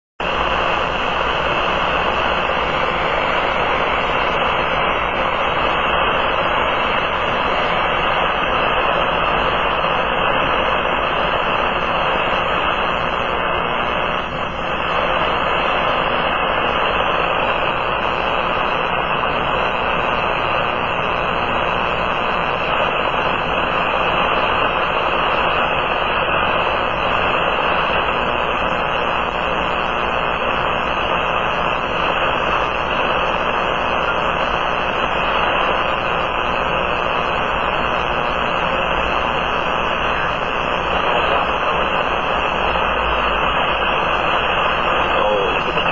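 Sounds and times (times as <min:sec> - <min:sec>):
radio static: 0:00.2 - 0:45.9.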